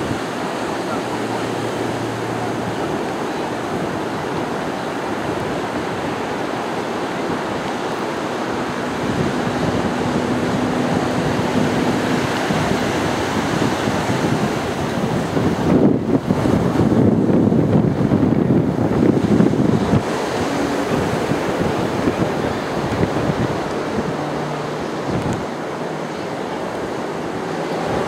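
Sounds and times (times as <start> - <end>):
plane engine drone overhead: 0.0 - 28.0
wind buffeting microphone: 0.0 - 28.0.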